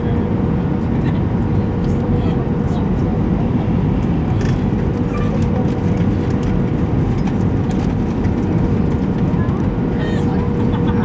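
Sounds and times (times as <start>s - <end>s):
jet aircraft rumble: 0.0s - 11.0s.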